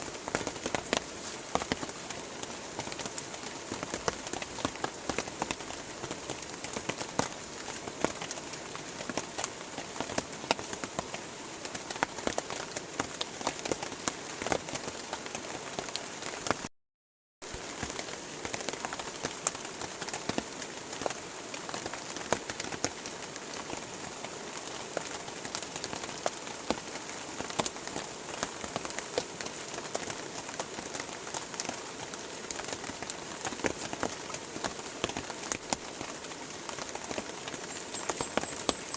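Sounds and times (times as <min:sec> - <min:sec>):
steady rain falling: 0:00.0 - 0:16.7, 0:17.4 - 0:38.9.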